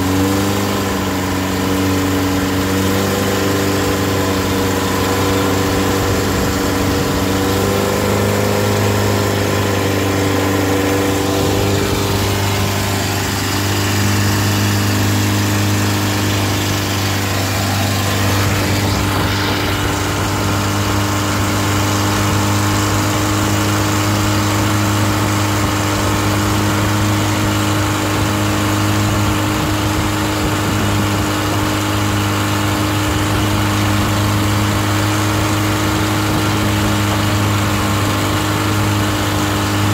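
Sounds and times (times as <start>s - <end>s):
unmuffled boat engine running: 0.0s - 39.9s
water rushing from propeller: 0.0s - 39.9s.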